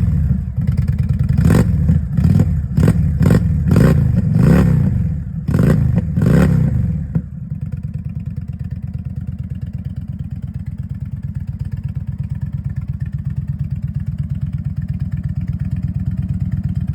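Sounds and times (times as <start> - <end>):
motorcycle engine revving and idling: 0.0 - 16.9.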